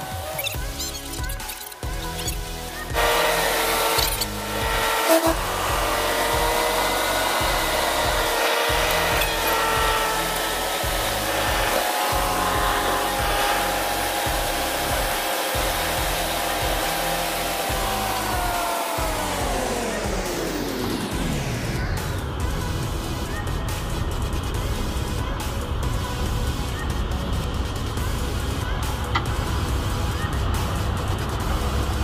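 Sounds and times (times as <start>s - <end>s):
engine whine: 0.0s - 32.0s
road noise: 2.1s - 32.0s.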